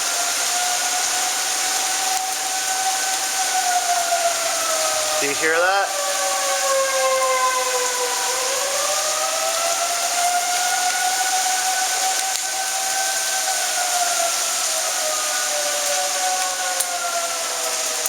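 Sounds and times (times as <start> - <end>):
tornado warning sirens wailing: 0.0 - 18.0.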